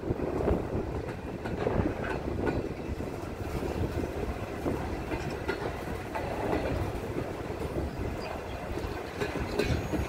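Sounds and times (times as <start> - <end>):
freight train wheels rumbling on rails: 0.0 - 10.0.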